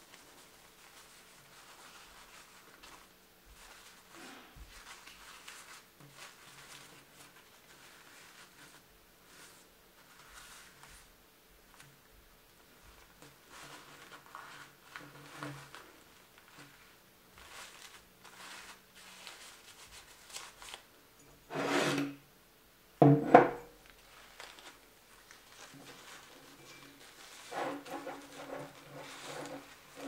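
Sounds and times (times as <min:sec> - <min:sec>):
paper napkin rustling: 0:00.0 - 0:20.9, 0:23.8 - 0:30.0.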